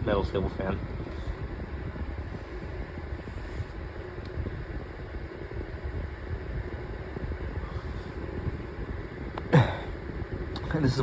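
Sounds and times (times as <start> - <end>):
table fan running: 0.0 - 11.0.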